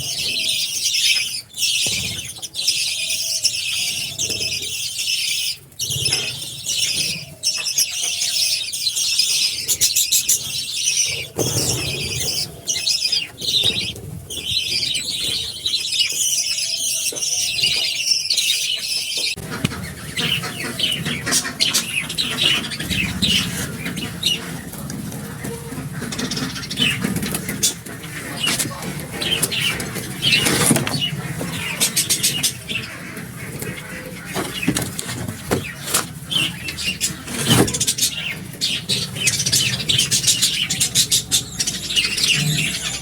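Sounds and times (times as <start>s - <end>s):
budgerigars chattering: 0.0s - 43.0s.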